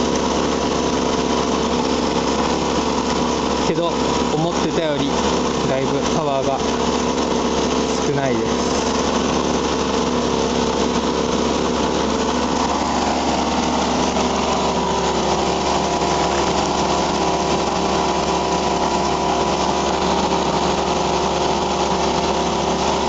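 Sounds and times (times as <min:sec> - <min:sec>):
small engine running steadily: 0:00.0 - 0:23.0.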